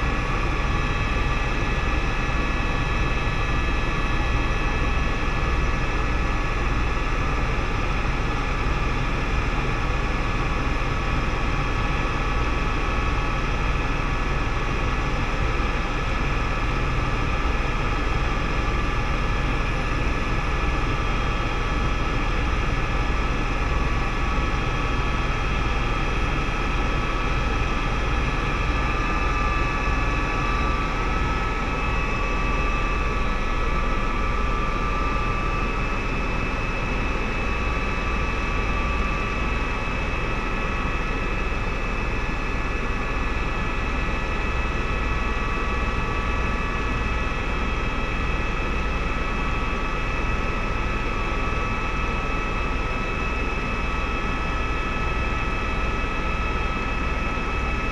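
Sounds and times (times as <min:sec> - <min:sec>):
helicopter engine whine: 0:00.0 - 0:57.9
pulsing rotor rumble: 0:00.0 - 0:57.9.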